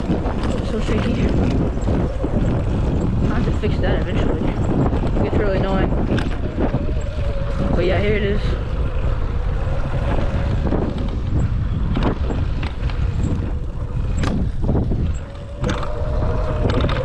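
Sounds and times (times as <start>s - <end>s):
wind rumble on microphone: 0.0s - 17.0s
electric motor whine: 0.5s - 17.0s.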